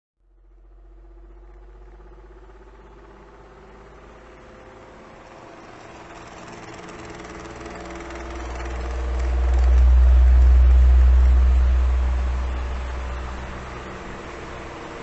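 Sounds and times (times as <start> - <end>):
electric fan running: 0.4 - 15.0.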